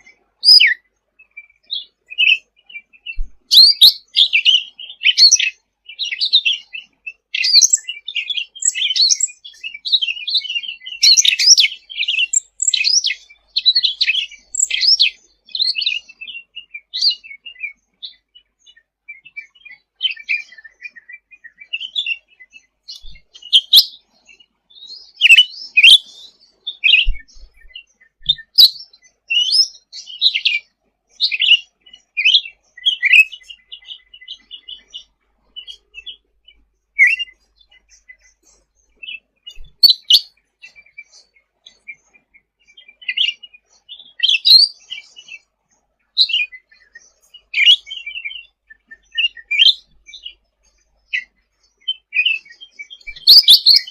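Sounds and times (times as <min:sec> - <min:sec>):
songbird chirping and trilling: 0:00.0 - 0:53.9.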